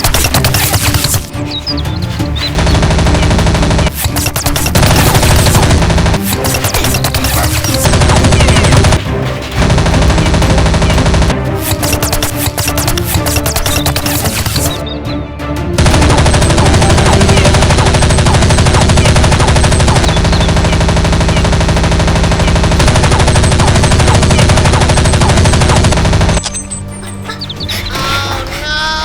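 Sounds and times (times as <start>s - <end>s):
rapid machine-gun fire: 0.0s - 1.3s, 2.6s - 14.8s, 15.8s - 26.4s
background music: 0.0s - 29.0s.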